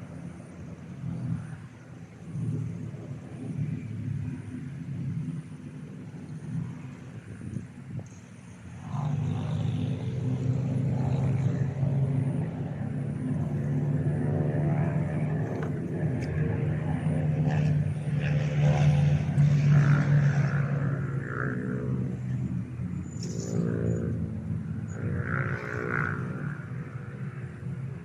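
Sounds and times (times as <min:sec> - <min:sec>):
motor engine droning: 0:00.0 - 0:28.0.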